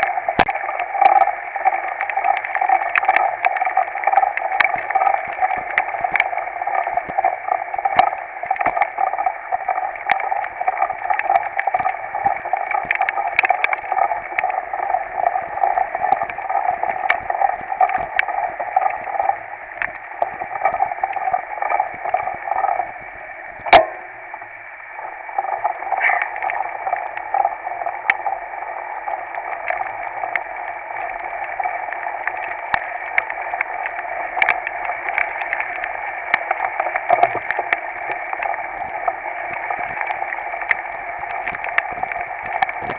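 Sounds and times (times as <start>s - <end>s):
rain rushing: 0.0s - 42.9s.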